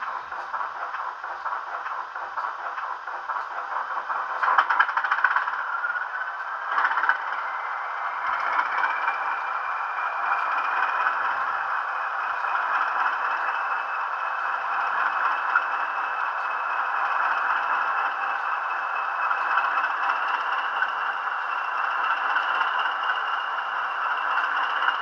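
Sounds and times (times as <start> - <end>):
model locomotive clattering: 0.0 - 25.0.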